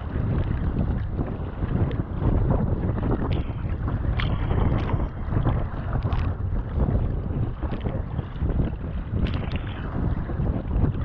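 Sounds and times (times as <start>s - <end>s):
paddle blades splashing: 0.0s - 11.0s
water splashing against hull: 0.0s - 11.0s
wind buffeting microphone: 0.0s - 11.0s.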